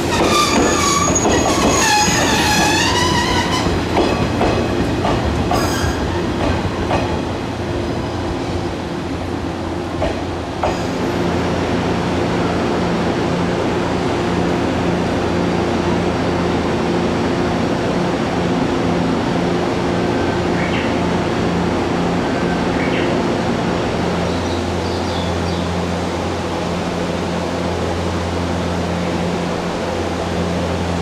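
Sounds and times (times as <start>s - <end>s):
train equipment humming: 0.0s - 31.0s.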